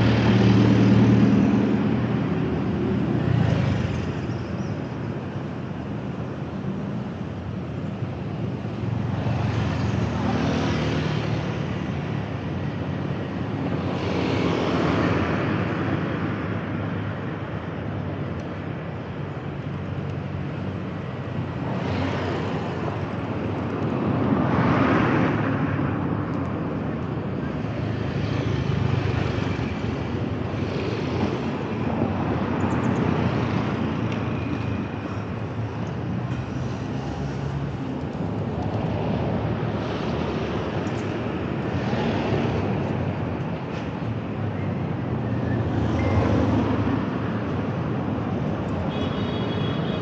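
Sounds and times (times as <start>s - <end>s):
vehicles passing: 0.0s - 50.0s.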